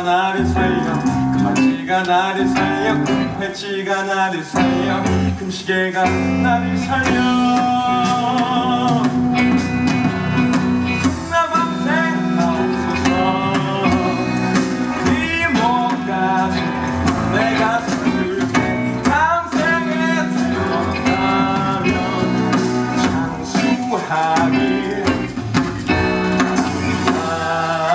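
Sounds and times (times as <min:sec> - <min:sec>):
man singing: 0:00.0 - 0:09.7, 0:11.0 - 0:27.9
band accompaniment: 0:00.0 - 0:27.9.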